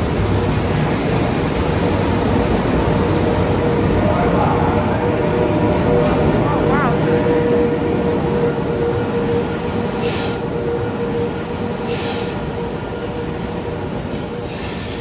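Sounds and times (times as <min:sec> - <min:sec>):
train rumbling away: 0:00.0 - 0:15.0.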